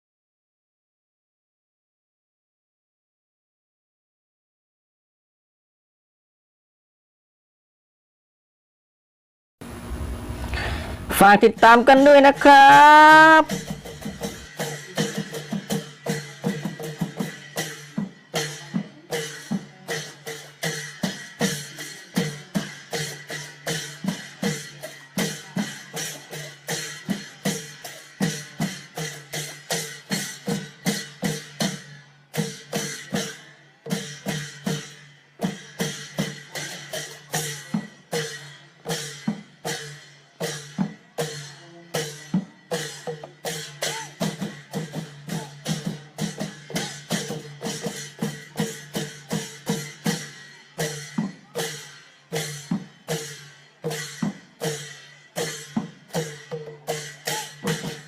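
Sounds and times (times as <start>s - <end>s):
long drums playing rhythm: 9.6s - 58.0s.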